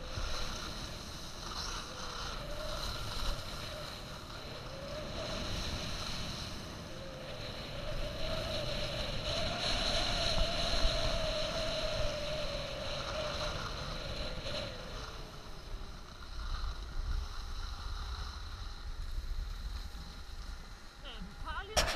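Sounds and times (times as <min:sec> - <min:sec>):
skis scraping over snow: 0:00.0 - 0:21.9
wind buffeting microphone: 0:00.0 - 0:21.9.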